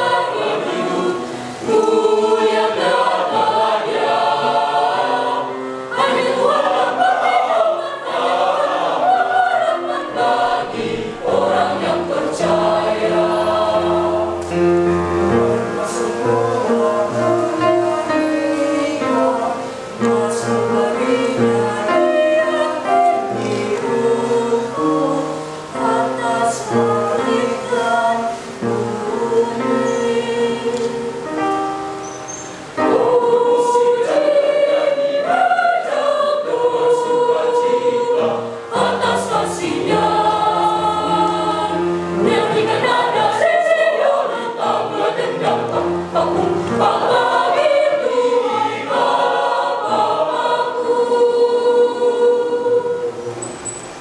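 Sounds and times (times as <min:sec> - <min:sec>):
youth choir singing: 0:00.0 - 0:54.0.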